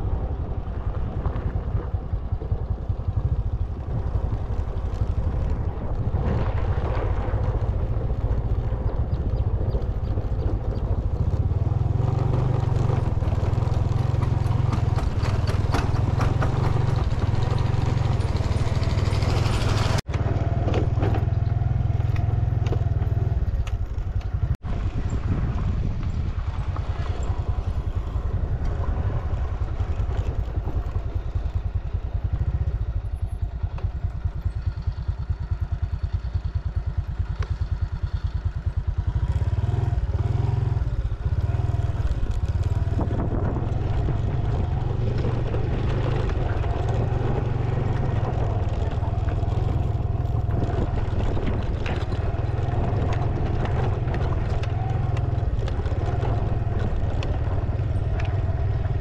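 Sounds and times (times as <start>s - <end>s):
low rumble on microphone: 0.0s - 37.2s, 38.3s - 59.0s
small motorcycle engine running: 0.0s - 59.0s.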